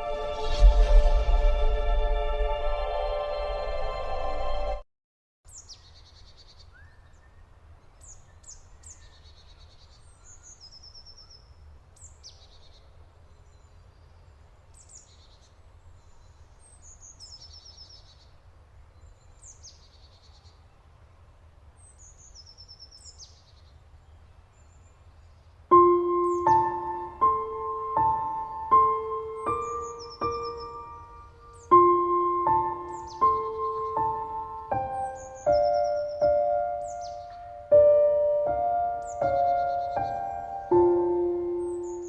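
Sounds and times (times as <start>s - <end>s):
songbird singing a trill: 5.5s - 21.0s, 21.8s - 42.0s.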